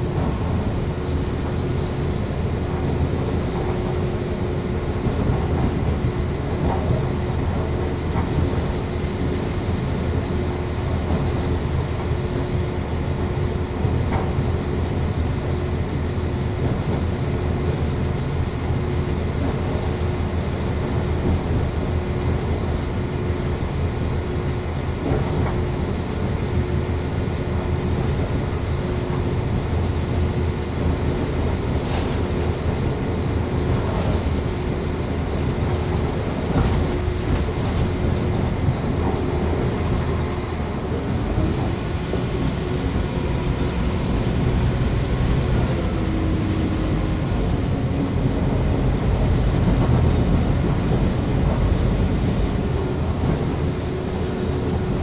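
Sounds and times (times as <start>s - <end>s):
constant hum: 0.0s - 55.0s
train wheels rumbling on rails: 0.0s - 55.0s.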